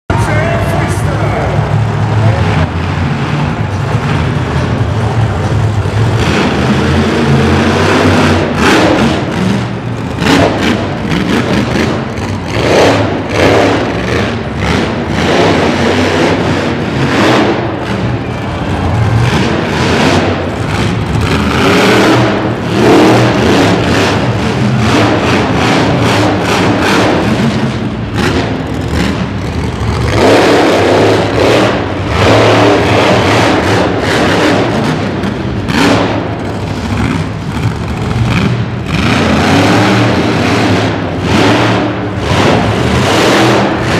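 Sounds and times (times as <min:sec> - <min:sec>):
monster truck engine revving: 0:00.1 - 0:43.9.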